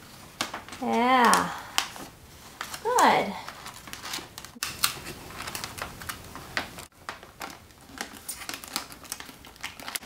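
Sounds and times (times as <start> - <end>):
cardboard and wrappers rustling: 0.0 - 10.0.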